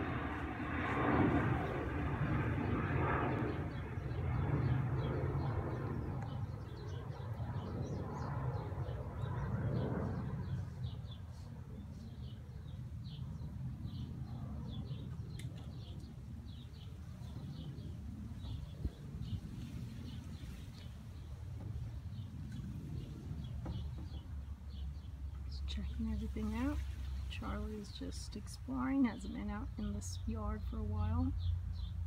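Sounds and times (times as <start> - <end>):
small birds chirping: 2.4 - 32.0.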